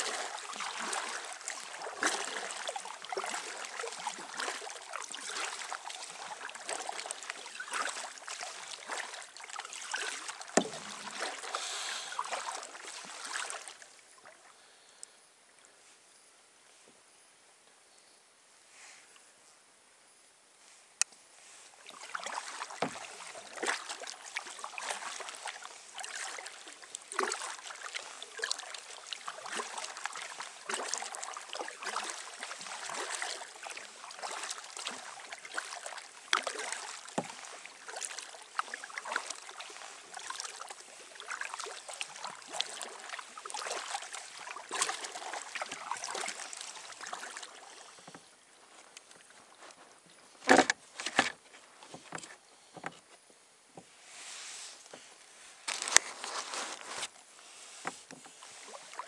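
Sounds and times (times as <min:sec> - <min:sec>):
paddle splashing and dripping: 0:00.0 - 0:15.1, 0:21.7 - 0:53.0, 0:54.9 - 0:59.0.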